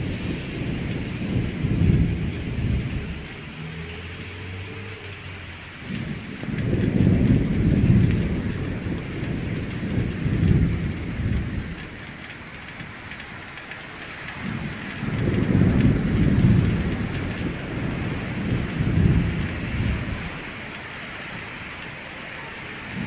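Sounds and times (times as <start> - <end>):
steady hiss: 0.0 - 23.0
thunder rumbles: 0.0 - 23.0.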